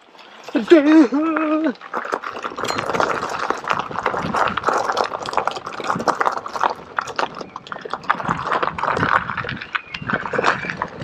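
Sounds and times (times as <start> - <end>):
small clicks and crackles: 0.0 - 11.0
tyres squelching through mud: 0.0 - 11.0.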